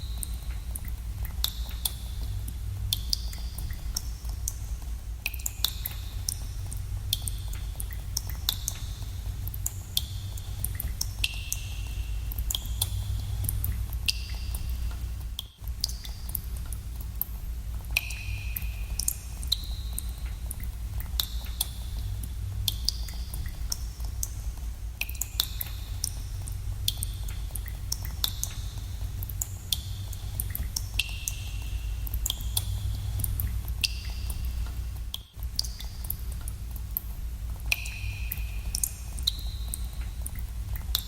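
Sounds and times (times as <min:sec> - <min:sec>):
water drops plinking into pools: 0:00.0 - 0:17.3, 0:17.9 - 0:41.0
steady low rumble: 0:00.0 - 0:41.0.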